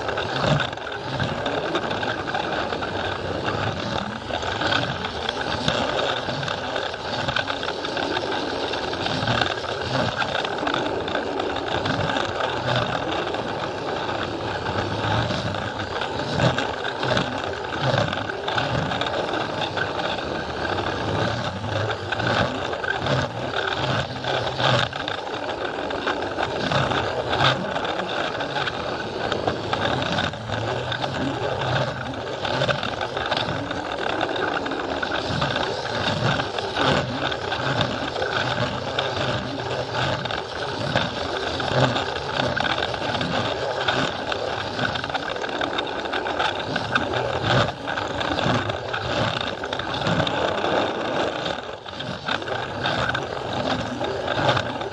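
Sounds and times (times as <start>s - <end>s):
toy train motor whir: 0.0s - 54.9s
wheels clicking over rail joints: 0.0s - 54.9s.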